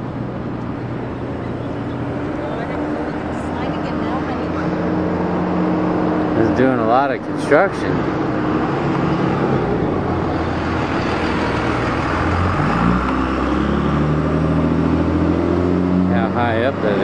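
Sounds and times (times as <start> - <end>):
outdoor traffic noise: 0.0 - 17.0
vehicle engine running: 0.0 - 17.0.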